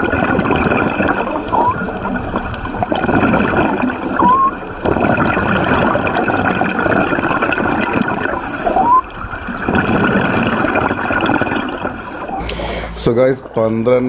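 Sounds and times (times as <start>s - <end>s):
underwater bubbling and gurgling: 0.0s - 14.0s.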